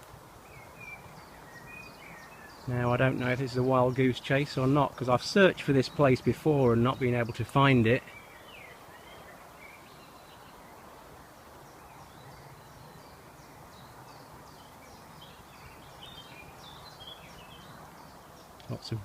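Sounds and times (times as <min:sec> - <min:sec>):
background hiss: 0:00.0 - 0:19.0
distant birds singing: 0:00.0 - 0:19.0.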